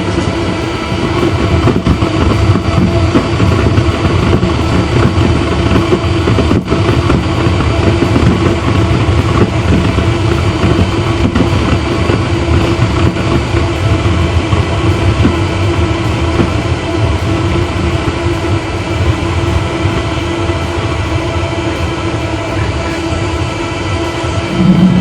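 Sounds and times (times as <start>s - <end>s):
low hum and rumble: 0.0s - 23.4s, 24.0s - 25.0s
oil burner rushing: 0.0s - 25.0s.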